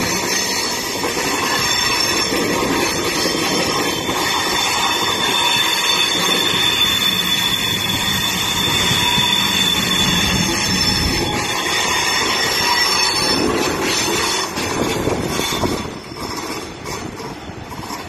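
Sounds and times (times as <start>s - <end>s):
rolling rumble of train wheels: 0.0s - 18.0s
train wheels squealing on rails: 0.0s - 18.0s.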